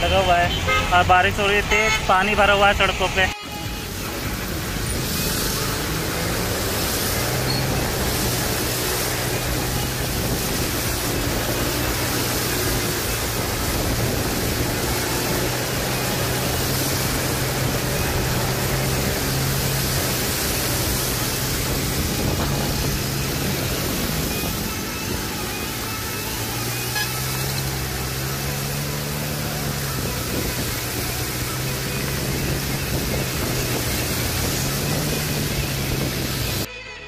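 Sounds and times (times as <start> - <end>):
tyres spraying water: 0.0 - 36.7
motorbike engine hum: 3.4 - 36.7
heavy rain: 3.5 - 36.7.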